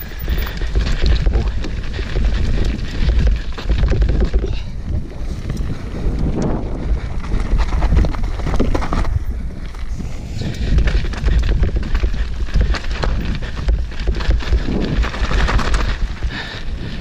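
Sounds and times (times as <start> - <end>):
bike rattling and knocking: 0.0 - 17.0
bike tyres crunching on gravel: 0.0 - 17.0
wind buffeting microphone: 0.0 - 17.0.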